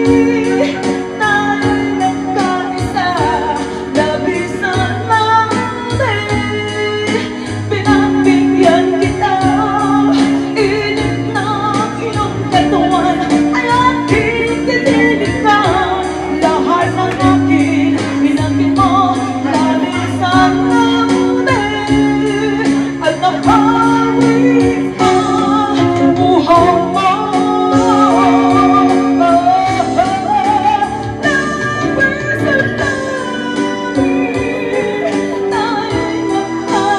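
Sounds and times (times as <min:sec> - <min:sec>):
bass: 0:00.0 - 0:36.9
electric guitar: 0:00.0 - 0:36.9
woman singing into microphone: 0:00.0 - 0:36.9.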